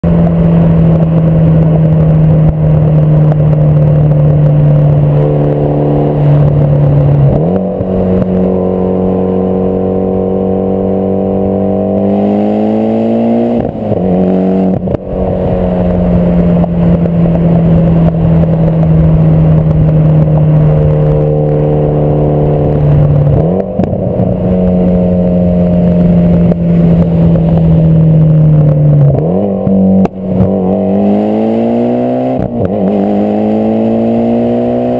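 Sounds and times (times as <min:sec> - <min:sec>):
turbocharged car engine running: 0:00.0 - 0:34.9.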